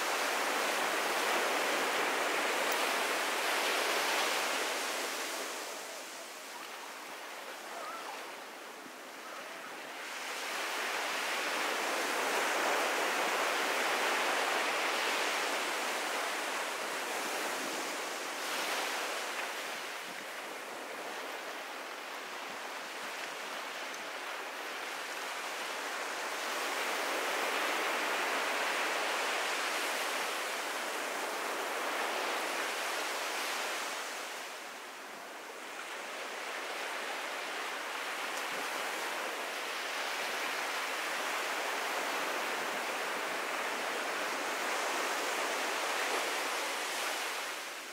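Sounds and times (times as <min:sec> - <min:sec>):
ocean surf washing onto beach: 0:00.0 - 0:47.9.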